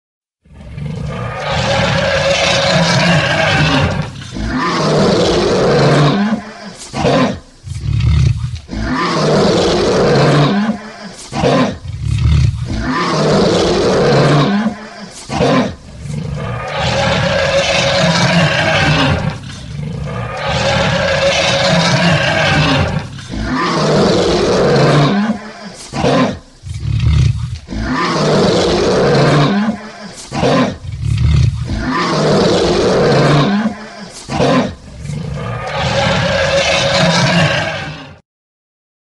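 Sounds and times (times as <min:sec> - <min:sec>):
lion roaring: 0:00.4 - 0:38.2.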